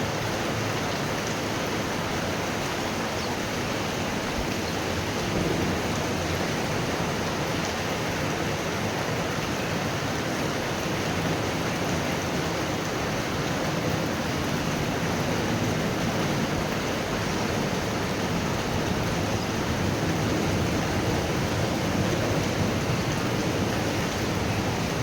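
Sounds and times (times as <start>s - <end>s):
heavy rain hissing: 1.4s - 25.0s.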